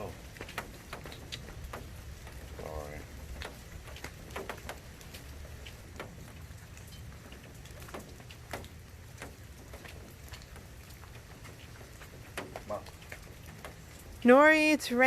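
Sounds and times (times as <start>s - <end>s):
light rain falling: 0.0s - 15.0s
raindrops tapping on surfaces: 0.0s - 15.0s.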